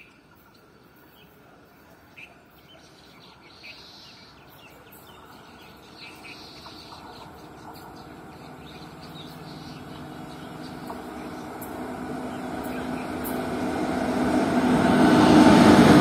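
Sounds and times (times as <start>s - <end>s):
birds chirping: 0.0s - 15.4s
train rumbling: 0.0s - 16.0s.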